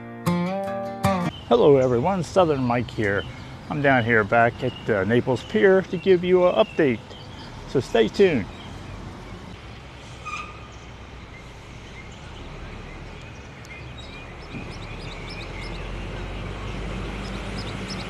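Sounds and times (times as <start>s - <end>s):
birds chirping: 1.3s - 18.0s
low engine hum: 1.3s - 18.0s.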